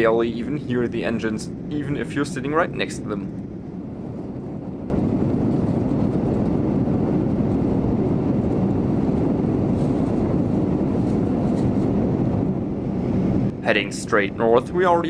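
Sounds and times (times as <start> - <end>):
airplane cabin engine and airflow noise: 0.0 - 15.0.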